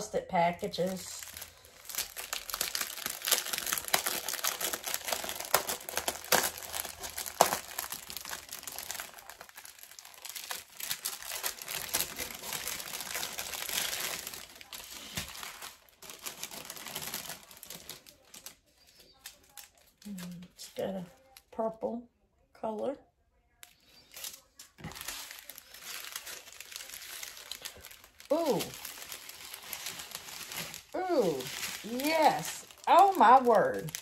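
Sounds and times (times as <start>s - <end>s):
plastic packaging crinkling: 0.6s - 21.5s, 23.6s - 34.0s.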